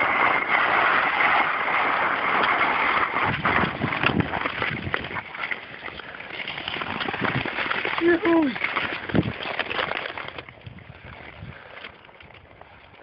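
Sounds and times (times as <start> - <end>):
ice skates scraping on ice: 0.0 - 13.0.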